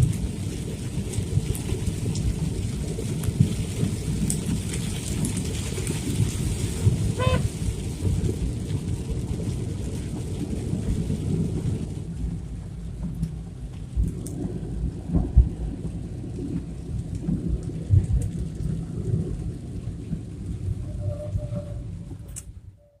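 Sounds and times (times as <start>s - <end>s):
heavy rain pouring: 0.0s - 22.7s.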